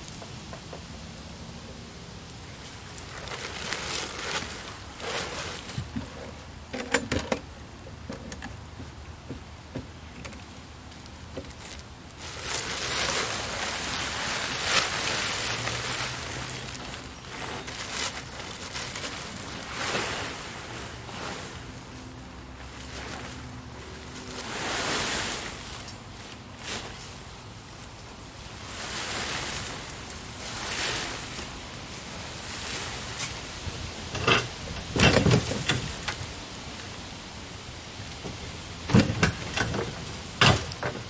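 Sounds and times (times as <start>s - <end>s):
plastic tarp rustling and crinkling: 0.0s - 6.9s, 10.4s - 41.0s.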